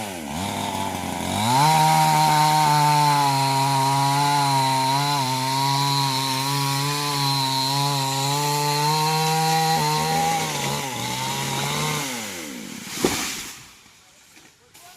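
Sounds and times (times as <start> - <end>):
chainsaw running: 0.0 - 13.4.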